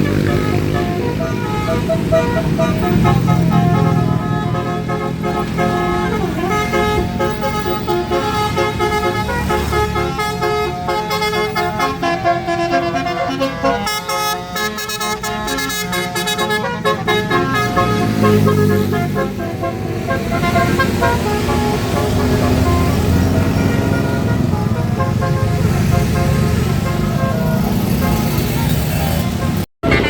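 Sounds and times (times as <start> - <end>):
bus engine rumble: 0.0 - 30.0
multi-tone bus horn tune: 0.0 - 30.0.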